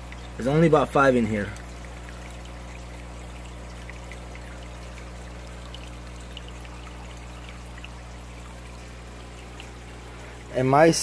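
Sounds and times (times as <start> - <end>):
aquarium water trickling: 0.0 - 11.0
faint water drips: 0.0 - 11.0.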